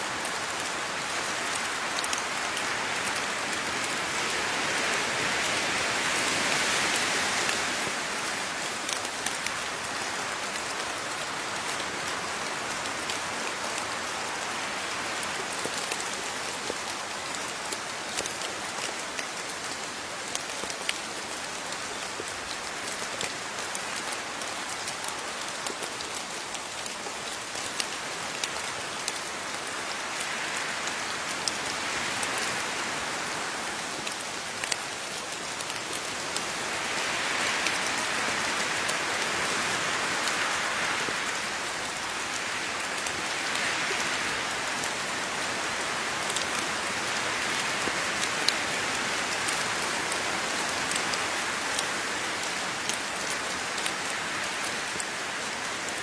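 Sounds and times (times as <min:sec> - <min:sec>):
steady rain hissing: 0:00.0 - 0:56.0
raindrops ticking on a surface: 0:00.1 - 0:56.0.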